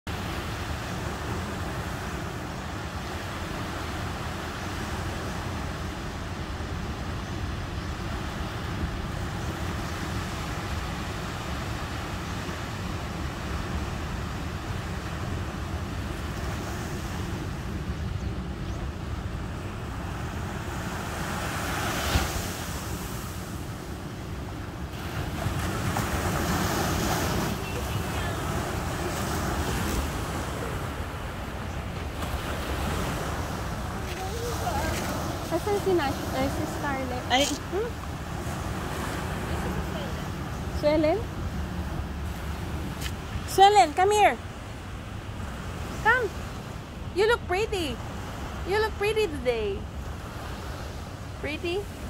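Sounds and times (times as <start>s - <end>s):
surf washing up beach: 0.1s - 52.0s
wind rumbling on microphone: 0.1s - 52.0s.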